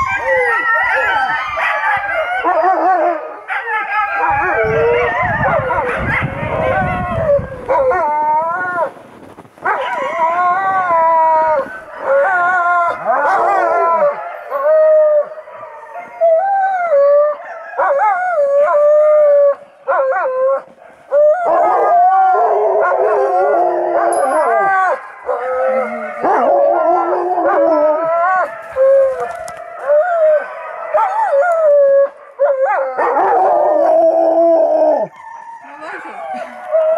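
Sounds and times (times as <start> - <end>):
dogs howling and whining: 0.0 - 9.0, 9.6 - 36.9.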